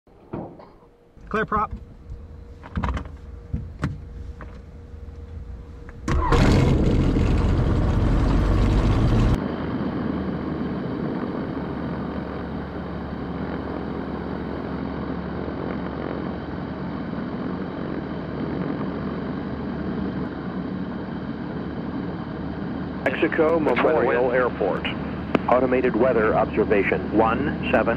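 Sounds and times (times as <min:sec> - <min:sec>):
light aircraft engine running: 0:00.2 - 0:27.9.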